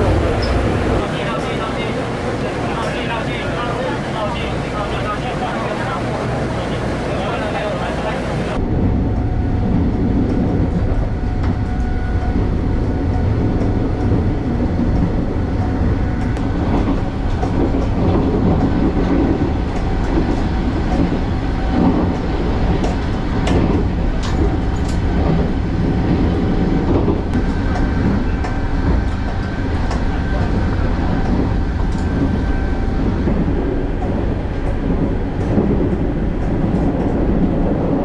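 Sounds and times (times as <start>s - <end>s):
train low rumble: 0.0s - 38.0s.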